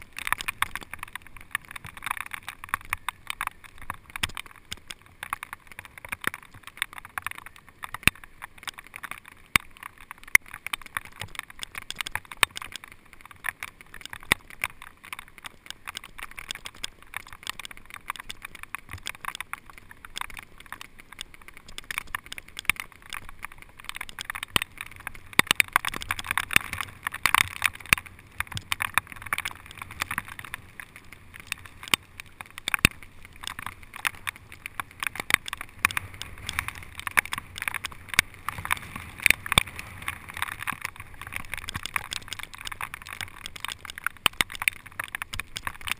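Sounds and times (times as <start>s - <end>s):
bicycle tyres hissing on wet path: 0.0s - 45.9s
sharp ticks and knocks: 0.0s - 45.9s.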